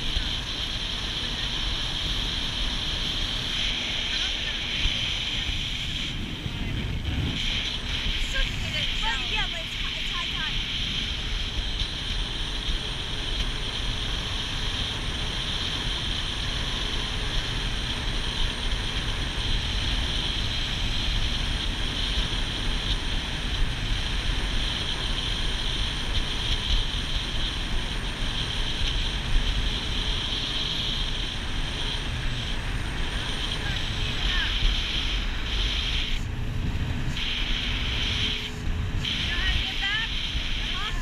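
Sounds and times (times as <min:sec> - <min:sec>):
motorboat engine drone: 0:00.0 - 0:41.0
wind buffeting microphone: 0:00.0 - 0:41.0.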